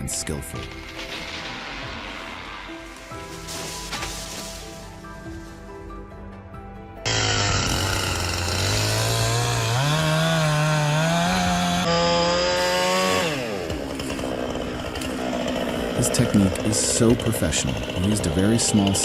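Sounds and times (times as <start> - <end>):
chainsaw engine revving: 0.5 - 4.2, 7.0 - 19.0.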